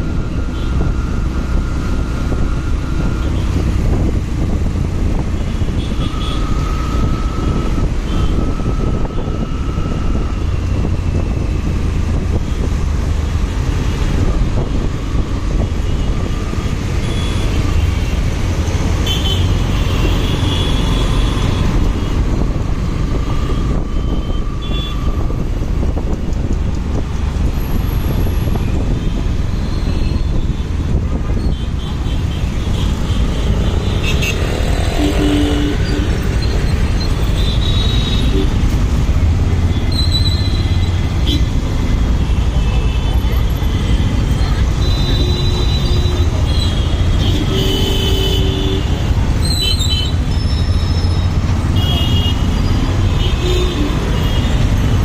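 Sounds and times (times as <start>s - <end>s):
road and wind noise: 0.0s - 55.0s
road traffic: 0.0s - 55.0s.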